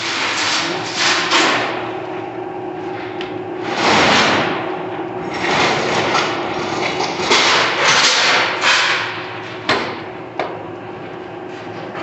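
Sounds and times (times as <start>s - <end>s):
lathe running with gear clatter: 0.0s - 12.0s.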